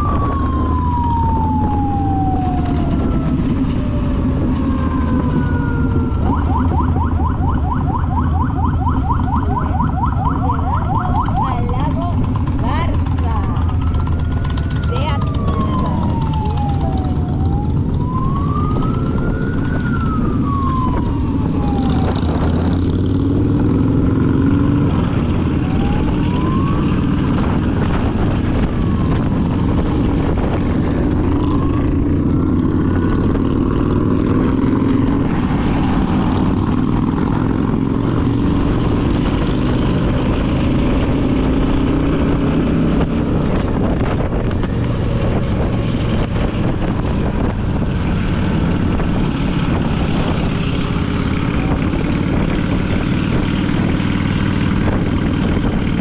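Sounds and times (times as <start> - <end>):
rising and falling tones: 0.0 - 12.6, 13.5 - 51.6
motorcycle engine running: 0.0 - 56.0
wind noise on microphone: 0.0 - 56.0.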